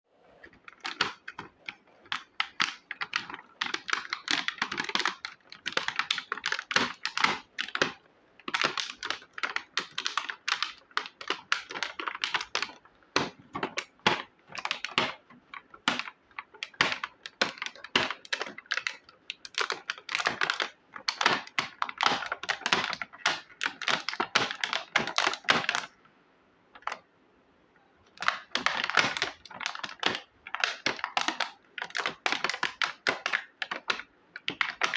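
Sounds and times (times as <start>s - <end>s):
small plastic parts clicking: 0.4s - 26.0s, 28.0s - 34.9s.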